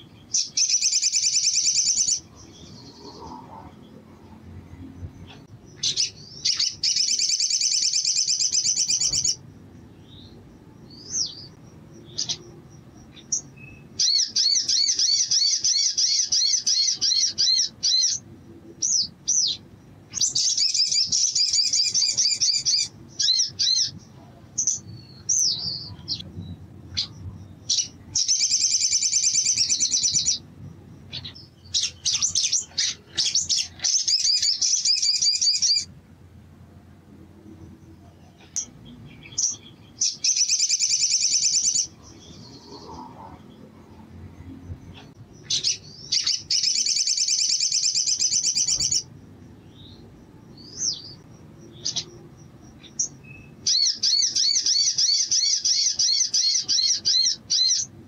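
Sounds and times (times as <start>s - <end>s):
bird singing fast trills: 0.0s - 4.0s, 5.1s - 35.9s, 37.9s - 43.2s, 44.8s - 58.0s
bird chirps: 0.0s - 35.9s, 37.5s - 58.0s.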